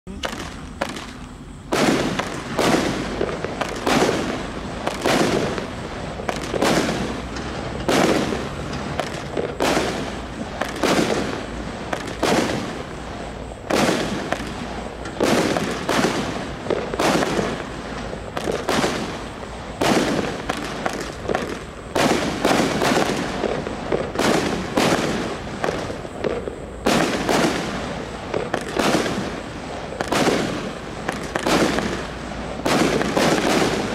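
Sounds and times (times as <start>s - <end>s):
fireworks bangs: 0.1s - 33.9s.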